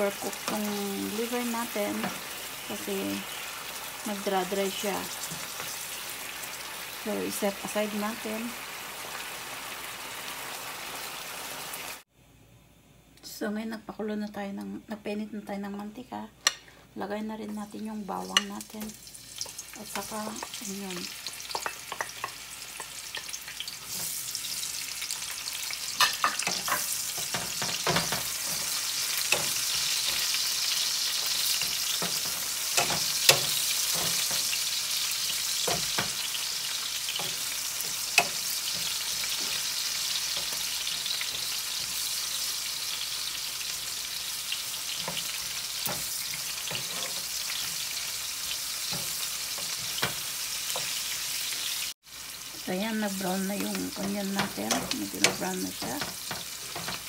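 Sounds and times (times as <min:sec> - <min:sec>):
onion sizzling in oil: 0:00.0 - 0:12.1, 0:17.4 - 0:57.0.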